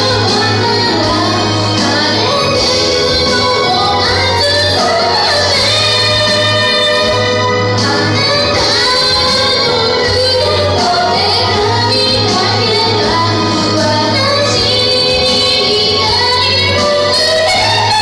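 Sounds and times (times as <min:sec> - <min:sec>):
karaoke backing track: 0:00.0 - 0:18.0
young woman singing: 0:00.0 - 0:18.0.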